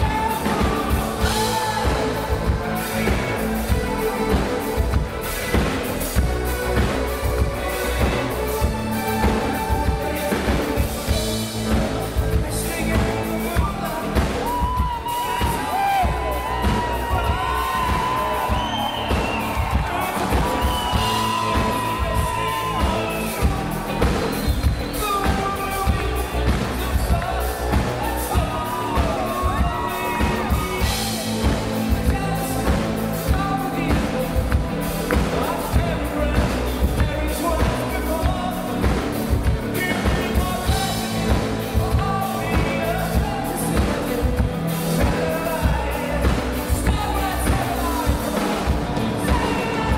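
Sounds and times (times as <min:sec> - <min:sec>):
drum kit beat: 0:00.0 - 0:49.9
live synth-pop band: 0:00.0 - 0:49.9
male vocal singing: 0:00.0 - 0:49.9.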